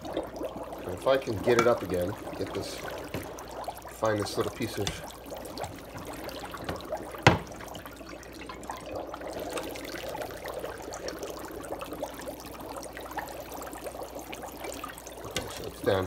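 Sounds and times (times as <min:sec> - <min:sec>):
dry ice bubbling in water: 0:00.0 - 0:16.0.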